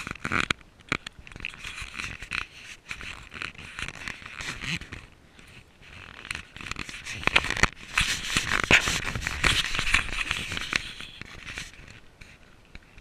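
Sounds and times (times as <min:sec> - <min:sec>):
handling noise on microphone: 0:00.0 - 0:13.0.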